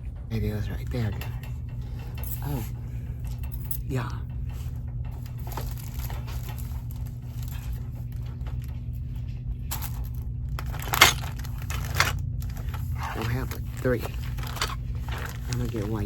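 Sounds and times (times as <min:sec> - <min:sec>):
low hum: 0:00.0 - 0:16.0
rustling and crinkling: 0:00.0 - 0:16.0.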